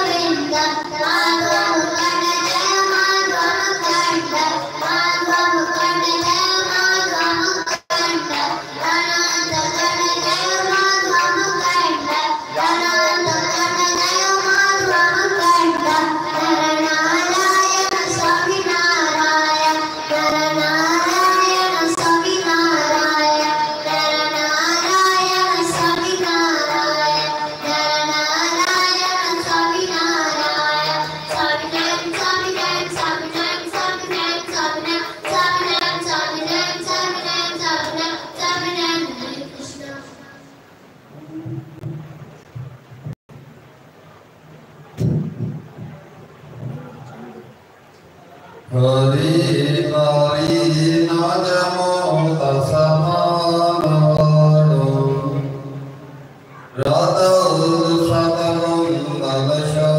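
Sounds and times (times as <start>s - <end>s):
boy singing into a microphone: 0.0s - 40.4s, 48.7s - 55.8s, 56.5s - 59.9s.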